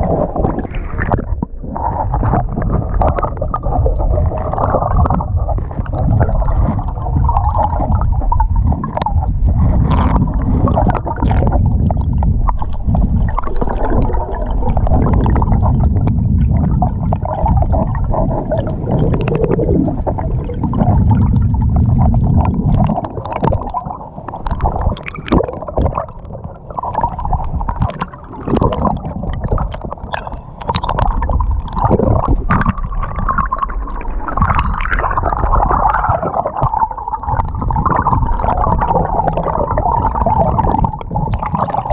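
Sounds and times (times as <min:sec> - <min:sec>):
underwater gurgling: 0:00.0 - 0:41.9
underwater rumble of moving water: 0:00.0 - 0:41.9
small crackles and clicks: 0:02.1 - 0:41.9.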